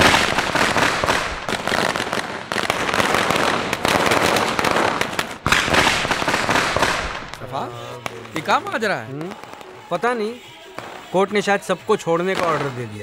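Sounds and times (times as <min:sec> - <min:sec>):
firecrackers going off: 0:00.0 - 0:13.0.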